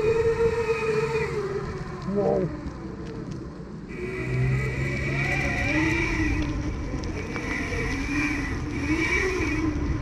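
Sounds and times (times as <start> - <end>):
electric motors whining: 0.0 - 2.4, 3.9 - 10.0.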